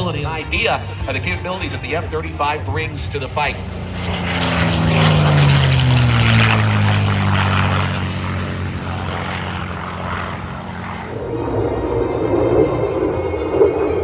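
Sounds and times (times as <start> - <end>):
aircraft flying past low: 0.0 - 14.0.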